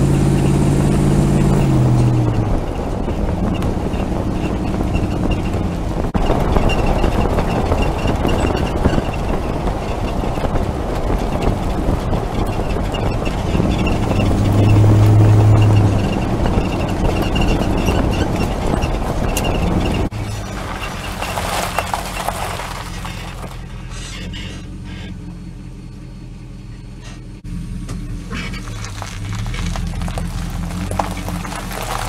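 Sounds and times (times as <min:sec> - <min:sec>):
tyre and road noise: 0:00.0 - 0:32.0.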